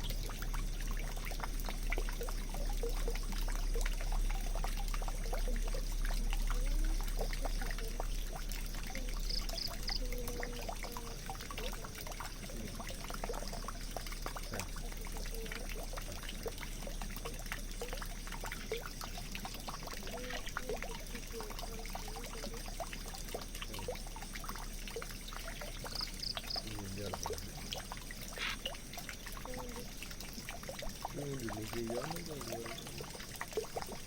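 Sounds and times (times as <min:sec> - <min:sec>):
water dripping plinks: 0:00.0 - 0:34.0
water running into a drain: 0:00.0 - 0:34.0.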